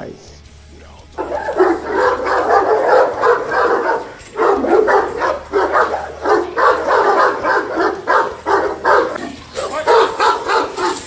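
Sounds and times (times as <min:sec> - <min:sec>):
dogs barking aggressively: 0:01.2 - 0:11.0.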